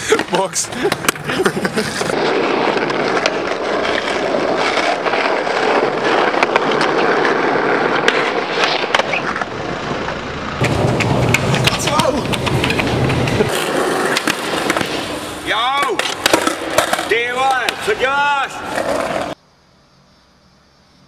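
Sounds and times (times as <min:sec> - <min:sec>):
skateboard wheels rolling: 0:00.0 - 0:19.4.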